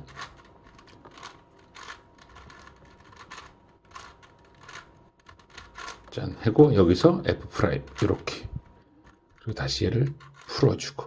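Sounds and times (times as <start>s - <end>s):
puzzle cube clicking: 0.0s - 6.1s, 7.5s - 10.6s.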